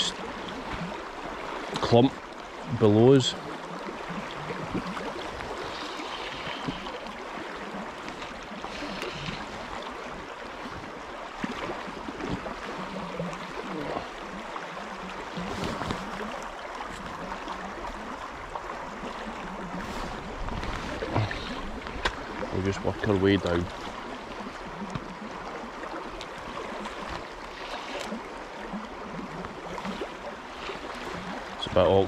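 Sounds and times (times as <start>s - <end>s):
fast river current rushing: 0.0s - 32.0s.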